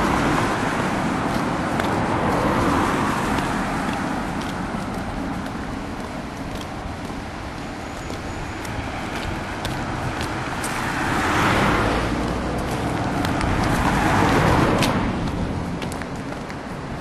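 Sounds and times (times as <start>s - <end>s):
cars passing: 0.0s - 17.0s
footsteps on asphalt: 0.0s - 17.0s.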